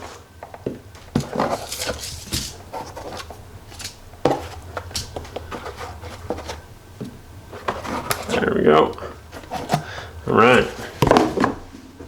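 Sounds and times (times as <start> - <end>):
packaging rustling: 1.0 - 11.7.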